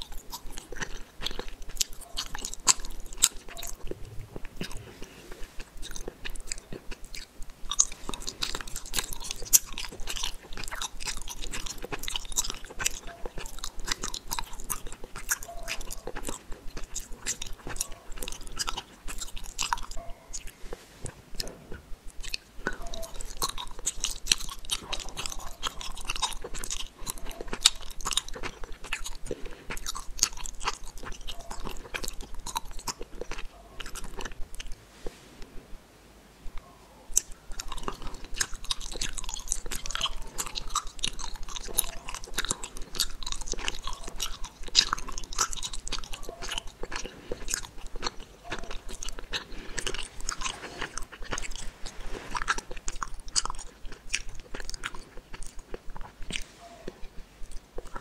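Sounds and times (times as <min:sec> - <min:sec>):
chewing gummy candies: 0:00.0 - 0:34.8, 0:36.5 - 0:58.0.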